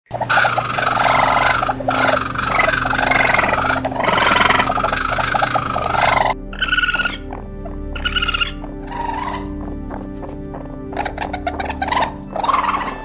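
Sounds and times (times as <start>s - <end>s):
faint low hum: 0.1s - 13.0s
raccoon screaming: 0.1s - 13.0s.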